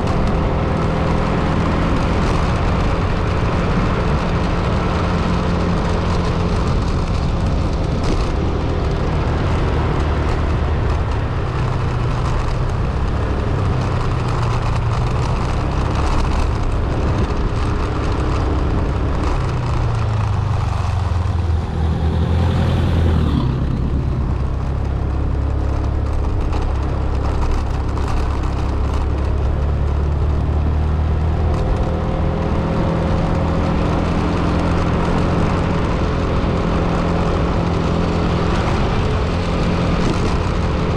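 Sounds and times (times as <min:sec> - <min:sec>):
road noise: 0:00.0 - 0:40.9
vehicle engine: 0:00.0 - 0:40.9.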